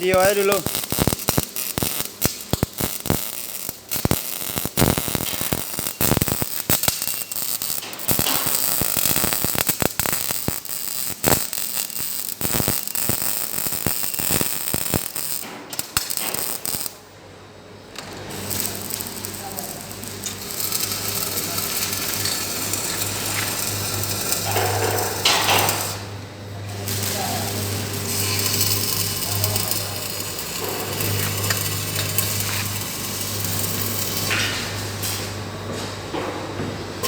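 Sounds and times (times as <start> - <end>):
electric arc welding crackle: 0.0 - 17.0, 17.9 - 35.5.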